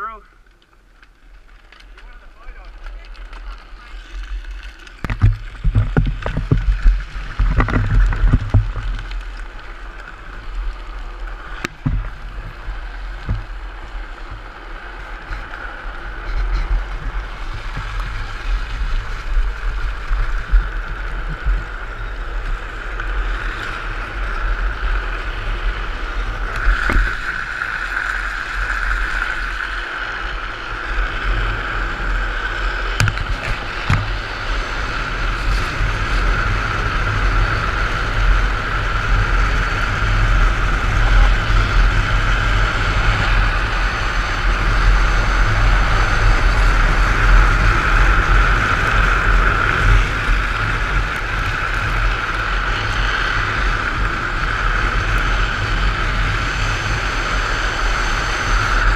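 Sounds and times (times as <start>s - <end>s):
wheels scraping on asphalt: 0.2s - 58.9s
wind buffeting microphone: 3.7s - 58.9s.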